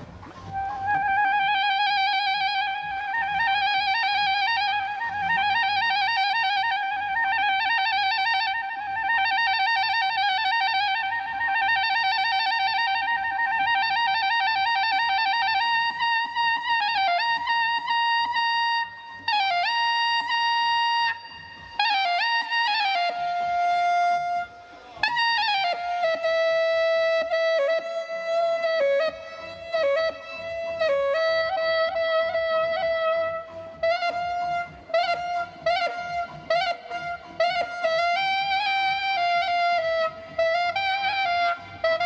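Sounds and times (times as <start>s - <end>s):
soprano saxophone melody: 0.0s - 42.0s.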